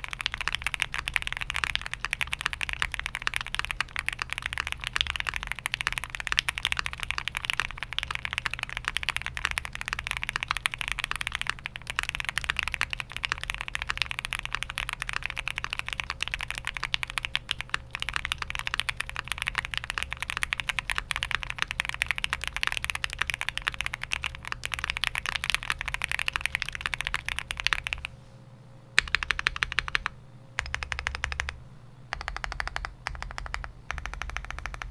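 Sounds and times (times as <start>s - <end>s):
mechanical keyboard typing: 0.0s - 28.1s, 29.0s - 34.9s.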